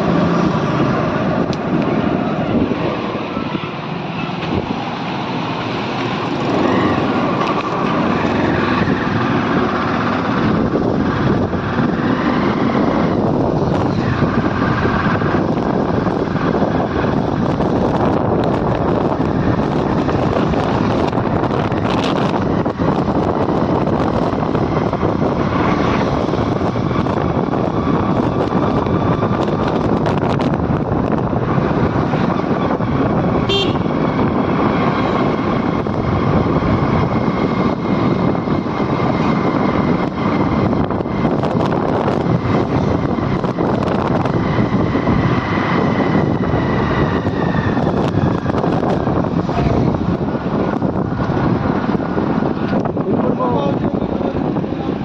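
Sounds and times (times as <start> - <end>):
road and wind noise in moving vehicle: 0.0 - 55.0.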